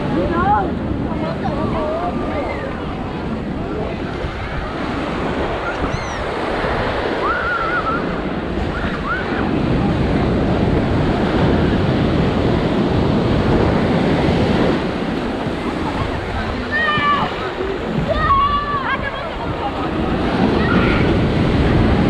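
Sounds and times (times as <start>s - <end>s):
ocean surf on beach: 0.0s - 22.0s
wind buffeting microphone: 0.0s - 22.0s.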